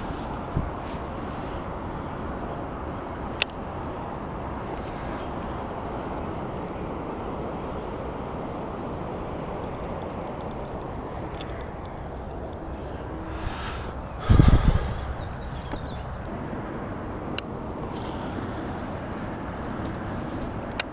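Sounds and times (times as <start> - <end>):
outdoor background noise: 0.0 - 20.9.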